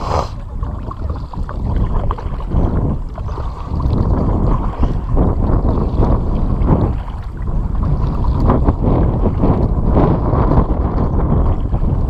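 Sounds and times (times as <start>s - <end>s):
kayak paddle splashing: 0.0s - 12.0s
wind rumble on microphone: 0.0s - 12.0s.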